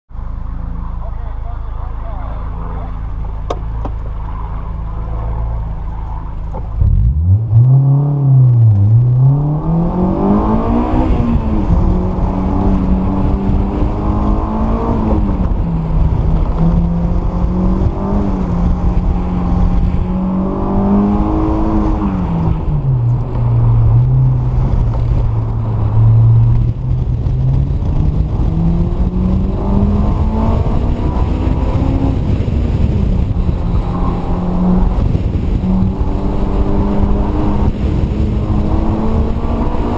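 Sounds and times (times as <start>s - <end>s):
car engine revving: 0.2s - 39.9s.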